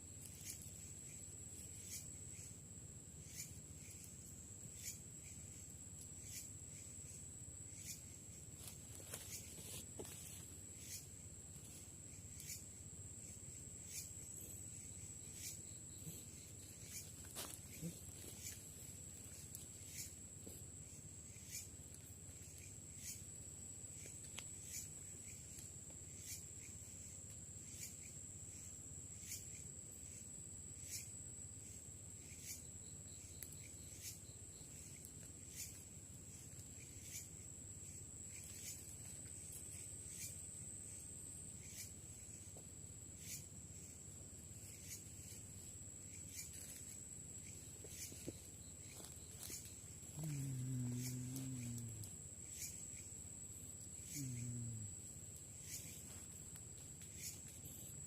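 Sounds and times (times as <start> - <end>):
insects trilling: 0.0 - 58.0
sharp insect chirps: 0.0 - 58.0.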